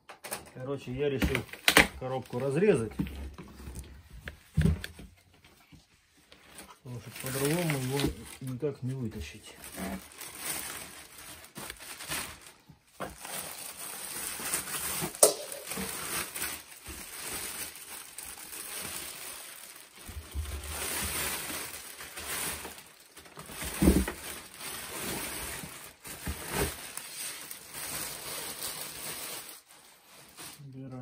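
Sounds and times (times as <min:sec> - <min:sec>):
plastic wrapping crinkling: 0:00.6 - 0:03.1, 0:05.6 - 0:31.0.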